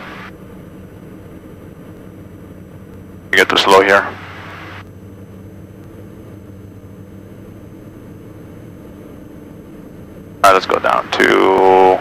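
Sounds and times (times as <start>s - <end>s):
aircraft engines droning in cockpit: 0.0s - 12.0s.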